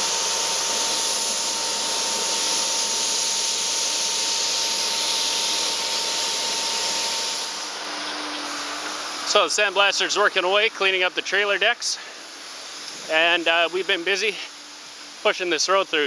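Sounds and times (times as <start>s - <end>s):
sandblaster hissing: 0.0s - 16.0s.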